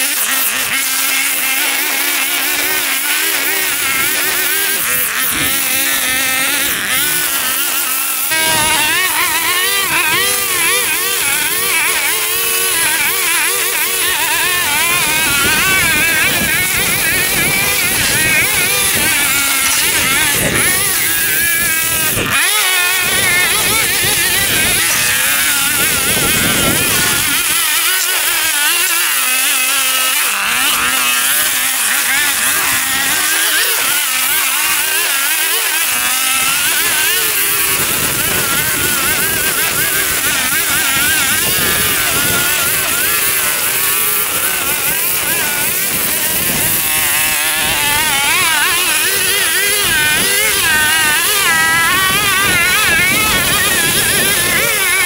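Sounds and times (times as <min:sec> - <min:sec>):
lawn mower engine cutting grass: 0:00.0 - 0:55.0.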